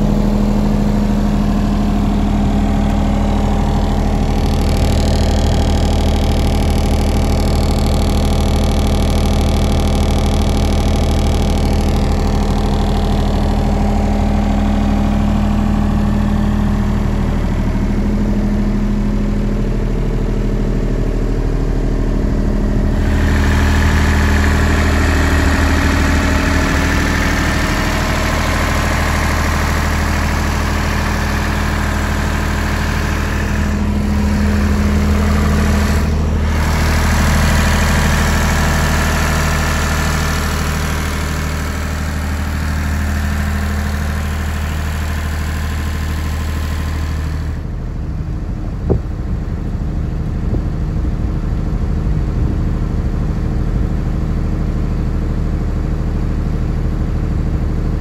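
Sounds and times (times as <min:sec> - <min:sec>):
diesel generator running: 0:00.0 - 0:58.0.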